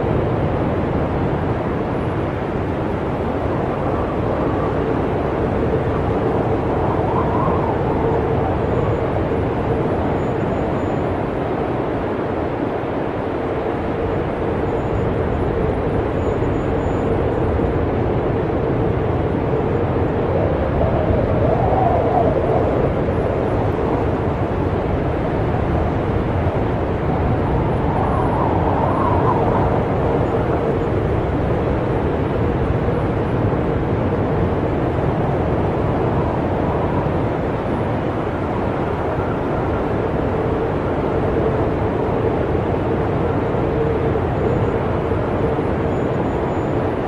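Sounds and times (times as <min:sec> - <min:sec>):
snowstorm wind with low whistle: 0:00.0 - 0:47.0.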